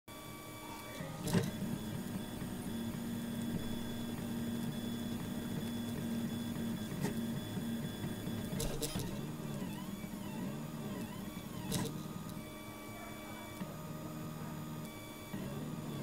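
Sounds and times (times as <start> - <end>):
printer stepper motors humming: 0.1 - 16.0.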